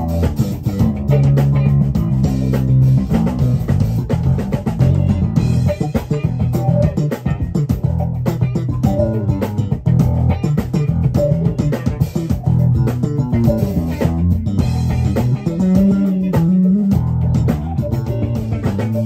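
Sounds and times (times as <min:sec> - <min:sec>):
electric bass guitar playing: 0:00.0 - 0:19.0.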